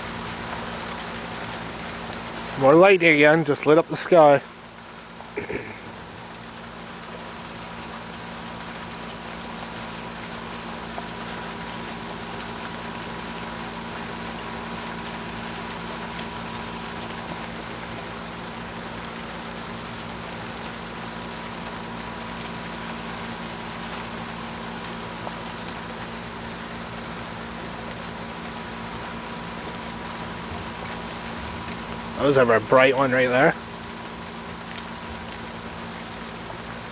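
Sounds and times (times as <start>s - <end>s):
heavy rain falling: 0.0s - 36.9s
low mechanical hum: 0.0s - 36.9s
drip ticks: 0.4s - 32.4s, 33.6s - 36.9s.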